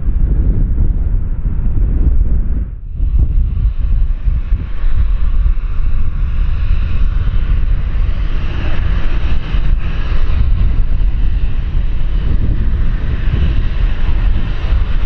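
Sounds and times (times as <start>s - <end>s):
jet engine noise: 0.0s - 15.0s
wind rumble on microphone: 0.0s - 15.0s.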